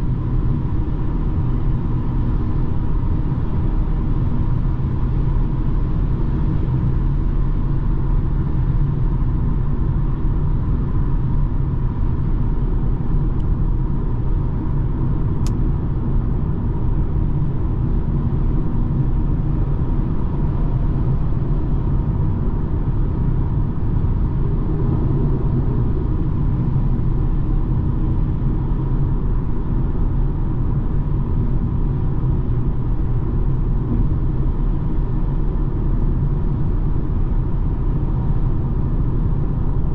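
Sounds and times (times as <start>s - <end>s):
car driving with low rumble: 0.0s - 39.9s.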